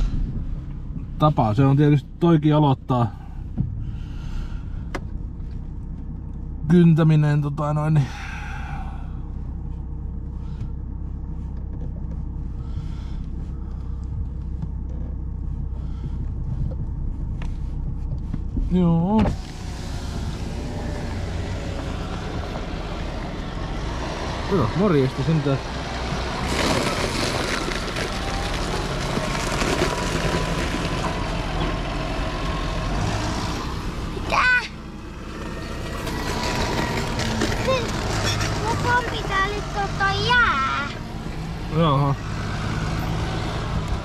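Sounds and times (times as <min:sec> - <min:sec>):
car engine rumble: 0:00.0 - 0:44.0.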